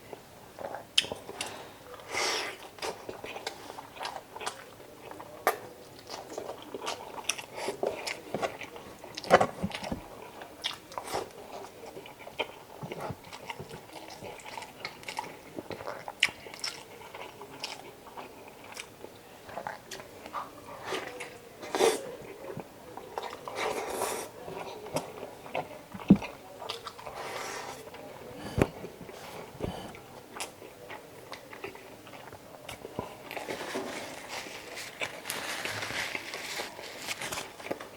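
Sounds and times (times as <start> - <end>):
person chewing food: 0.1 - 37.9.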